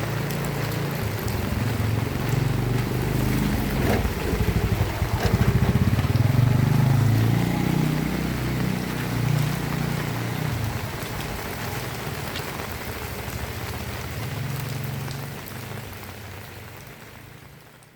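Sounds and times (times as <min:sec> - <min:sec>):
passing vehicle rumble: 0:00.0 - 0:16.9
heavy rain falling: 0:00.0 - 0:17.9.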